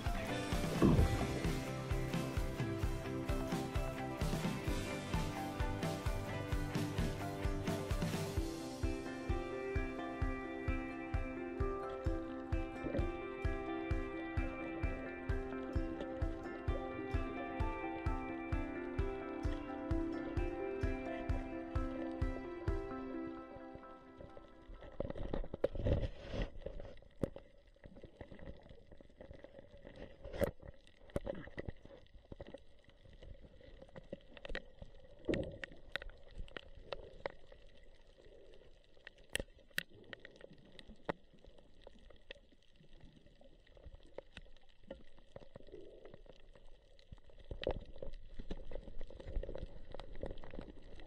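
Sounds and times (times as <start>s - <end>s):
muffled underwater rumble: 0.0s - 51.0s.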